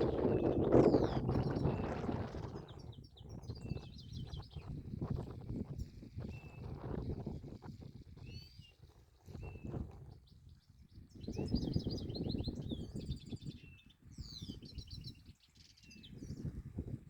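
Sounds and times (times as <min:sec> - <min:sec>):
bird chirp: 0:00.0 - 0:17.0.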